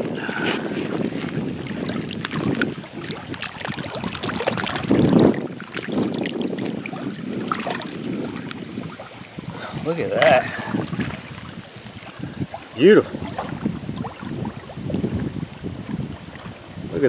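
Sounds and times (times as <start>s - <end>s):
small waves lapping on rocks: 0.0s - 17.0s
water sloshing: 0.0s - 17.0s
wind buffeting microphone: 0.0s - 17.0s.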